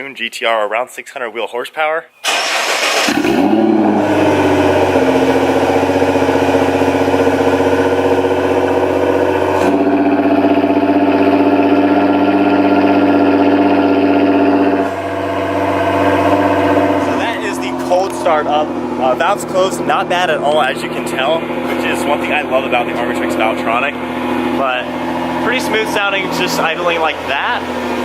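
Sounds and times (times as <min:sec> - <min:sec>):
car engine starting and idling: 0:02.2 - 0:28.0.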